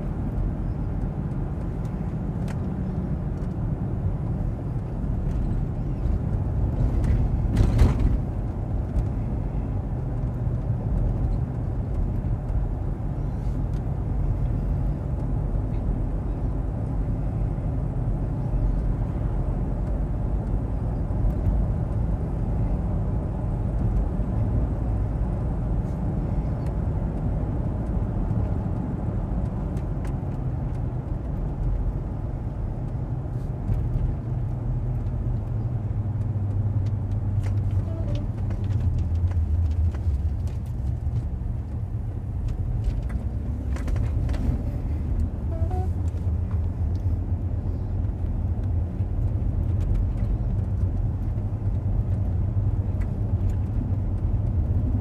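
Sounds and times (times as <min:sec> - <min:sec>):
car cabin driving rumble: 0:00.0 - 0:55.0.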